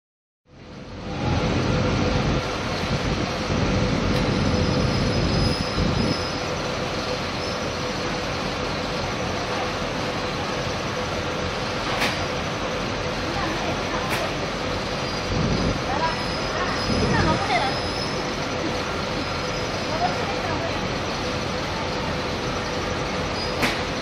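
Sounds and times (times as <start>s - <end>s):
drying machine running: 0.6s - 24.0s.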